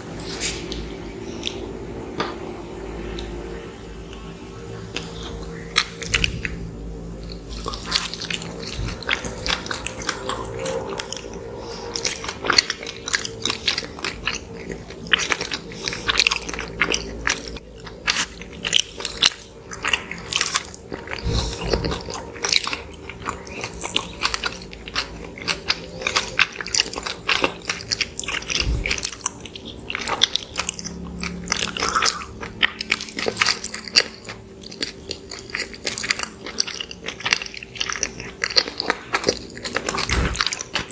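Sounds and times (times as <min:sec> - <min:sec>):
biting and chewing: 0:04.9 - 0:40.9.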